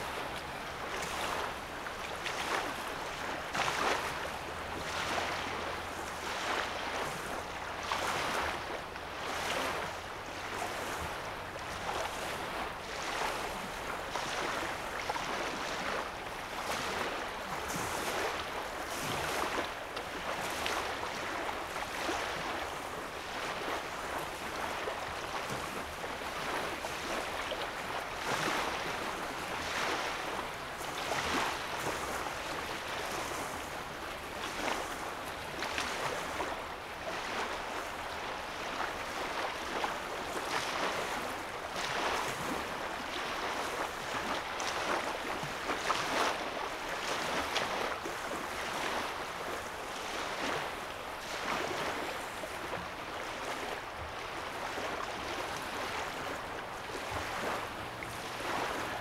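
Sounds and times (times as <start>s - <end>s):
waves lapping on sandy shore: 0.0s - 59.0s.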